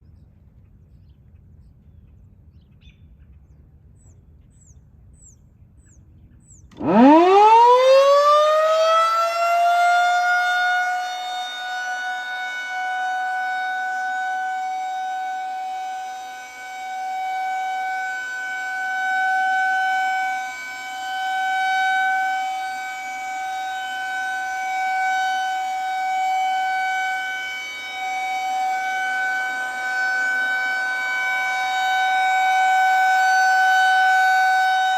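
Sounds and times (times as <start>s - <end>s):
rotating warning siren: 6.4s - 34.9s.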